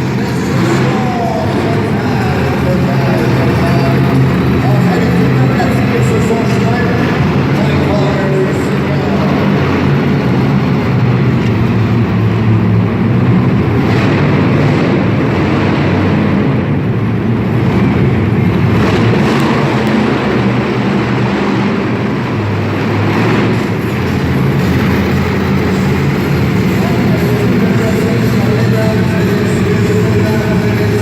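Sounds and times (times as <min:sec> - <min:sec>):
vehicle engine running loud: 0:00.0 - 0:31.0.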